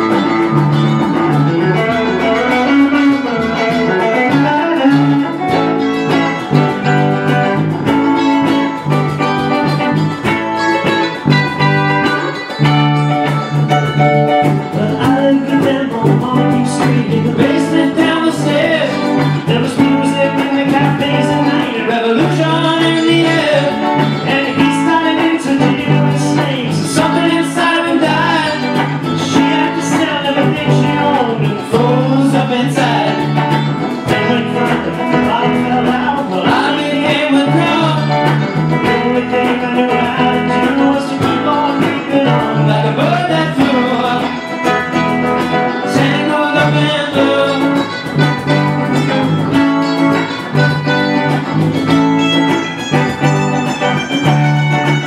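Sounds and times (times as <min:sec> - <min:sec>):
cajon beat: 0:00.0 - 0:55.0
electric guitars and bass: 0:00.0 - 0:55.0
person singing: 0:00.0 - 0:55.0.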